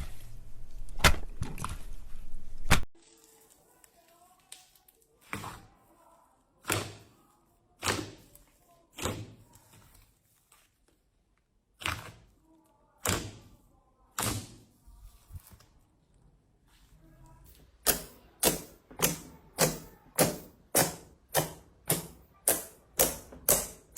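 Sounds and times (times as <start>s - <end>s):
slime squelching: 3.0s - 23.9s.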